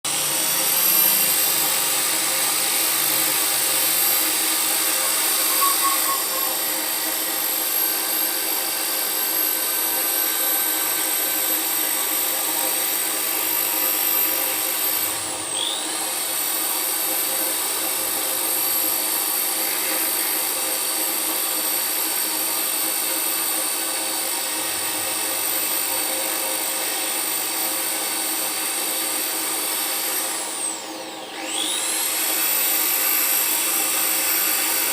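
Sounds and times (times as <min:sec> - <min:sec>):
high-pitched electric motor running: 0:00.1 - 0:34.9.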